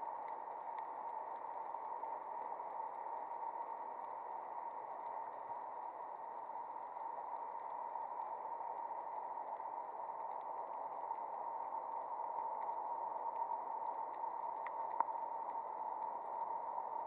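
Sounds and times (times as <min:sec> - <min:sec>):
faint steady tone: 0:00.0 - 0:17.0
muffled underwater hiss: 0:00.0 - 0:17.0.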